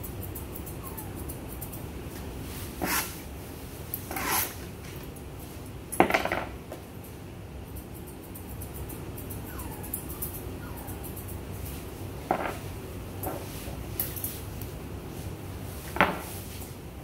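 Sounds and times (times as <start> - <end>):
grooming tool brushing dog coat: 0.0 - 5.0, 7.8 - 16.8.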